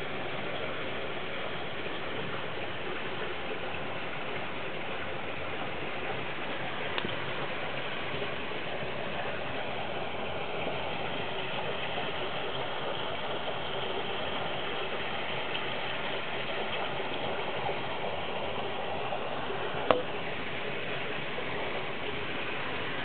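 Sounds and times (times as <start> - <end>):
water rushing in a tank: 0.0 - 23.0.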